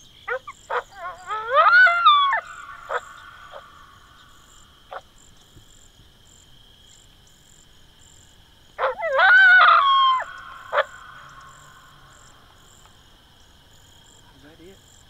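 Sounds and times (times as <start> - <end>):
coyotes yipping and howling: 0.0 - 6.4, 7.0 - 15.0
crickets trilling: 0.0 - 15.0.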